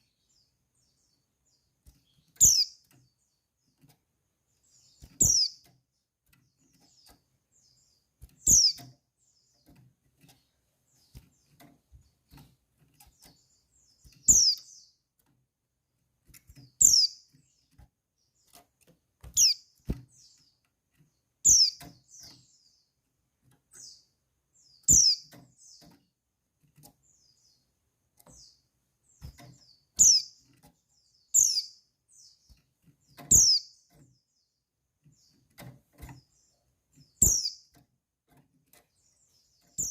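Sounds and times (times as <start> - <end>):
faint bird chirps: 0.0 - 15.3, 16.3 - 18.6, 19.2 - 39.9.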